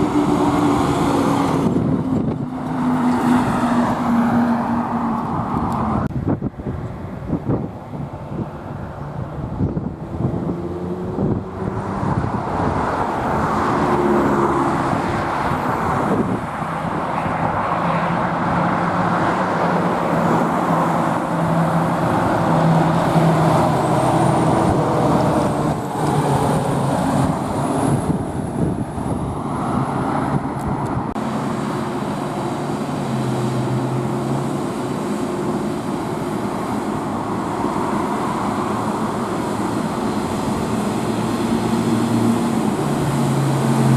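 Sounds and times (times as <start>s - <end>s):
road traffic rushing: 0.0s - 43.9s
truck engines humming: 0.0s - 43.9s.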